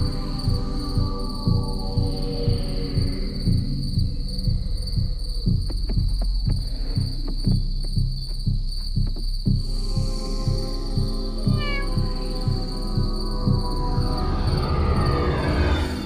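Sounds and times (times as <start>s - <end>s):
crickets chirring: 0.0s - 16.0s
low pulsing beat: 0.0s - 16.0s.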